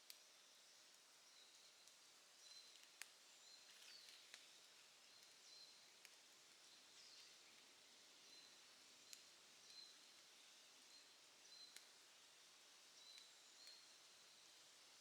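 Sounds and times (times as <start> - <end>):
campfire crackling and hissing: 0.0 - 15.0.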